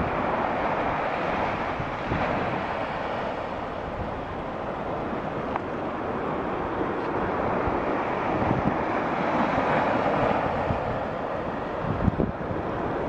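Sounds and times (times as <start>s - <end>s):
waves washing onto shore: 0.0s - 13.0s
wind rumbling on microphone: 0.0s - 13.0s.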